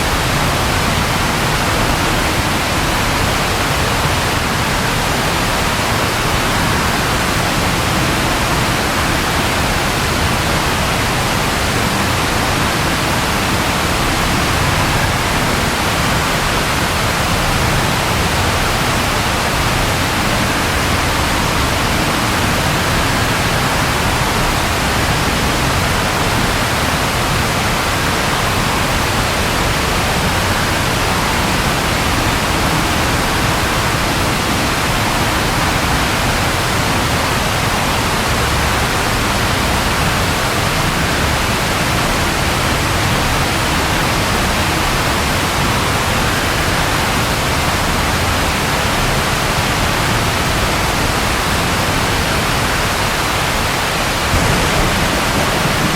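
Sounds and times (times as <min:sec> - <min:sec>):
steady rainfall hiss: 0:00.0 - 0:55.9.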